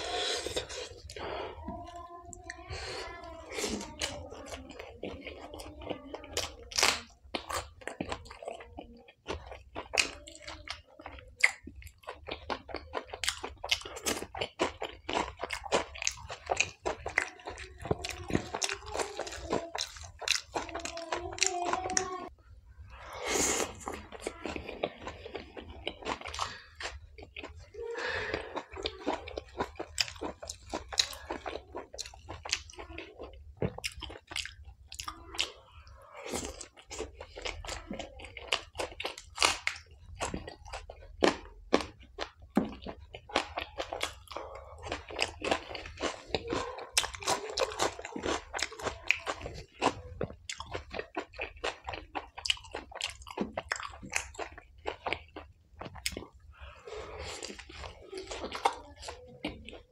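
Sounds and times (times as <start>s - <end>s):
close chewing and crunching: 0.0s - 59.9s.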